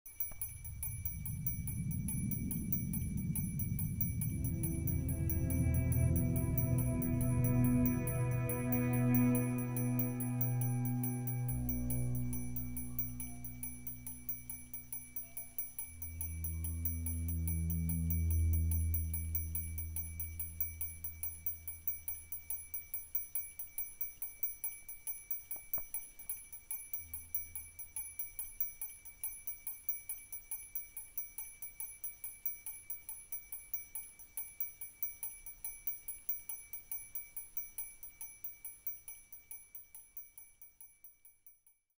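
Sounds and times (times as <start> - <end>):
small bells tinkling: 0.1 - 42.0.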